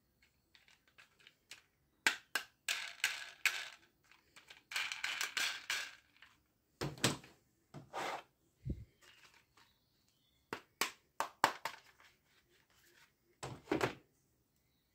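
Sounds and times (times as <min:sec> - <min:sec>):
plastic toys knocking and rustling: 0:00.0 - 0:07.9, 0:08.7 - 0:12.4, 0:13.4 - 0:14.1.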